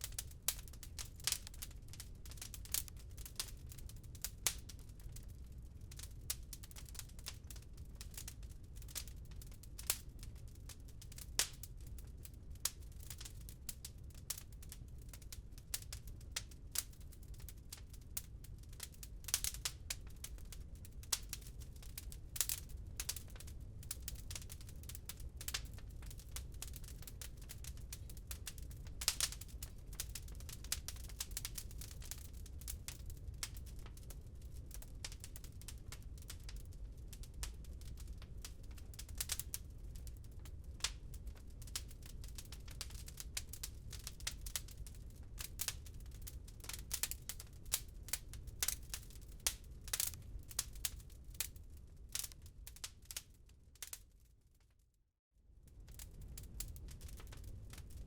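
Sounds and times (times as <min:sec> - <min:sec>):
wood fire crackling: 0:00.0 - 0:54.6, 0:55.6 - 0:58.0.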